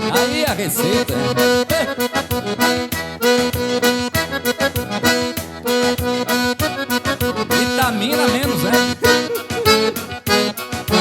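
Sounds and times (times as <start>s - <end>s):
accordion dance tune: 0.0s - 11.0s.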